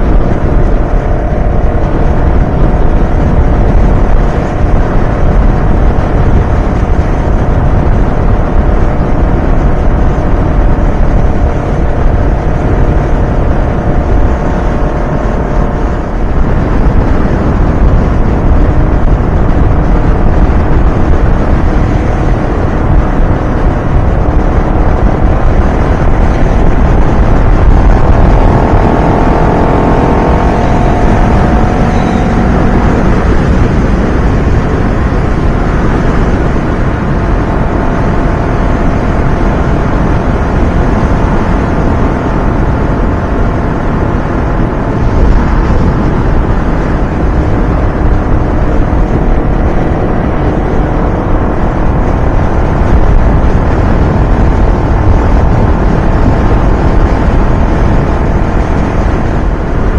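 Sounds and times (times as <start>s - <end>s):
motorcycle engine cruising: 0.0s - 59.9s
wind rush from motorcycle riding: 0.0s - 59.9s.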